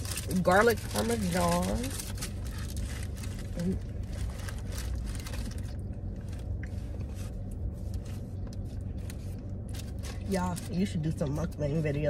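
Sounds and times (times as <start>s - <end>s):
clicks and rustles of eating: 0.0s - 10.7s
car cabin rumble: 0.0s - 12.0s.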